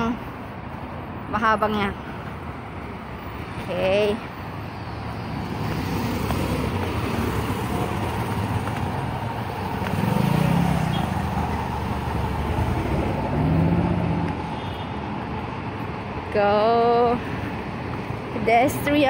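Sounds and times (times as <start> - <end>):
passing cars: 0.0 - 19.0.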